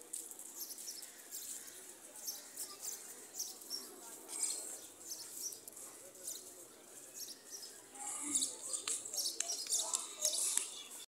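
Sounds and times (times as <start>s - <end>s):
faint distant voices: 0.0s - 11.0s
small birds chirping: 0.4s - 11.0s.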